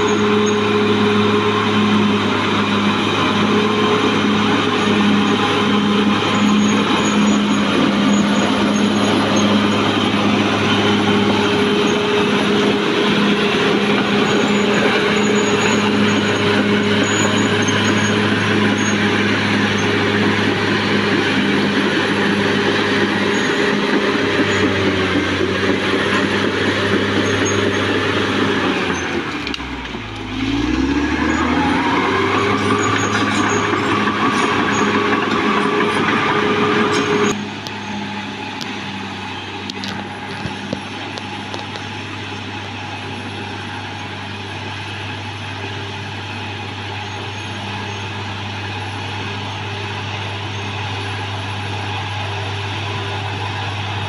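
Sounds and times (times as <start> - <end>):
bulldozer diesel engine running: 0.0 - 54.0
high whine: 0.0 - 54.0.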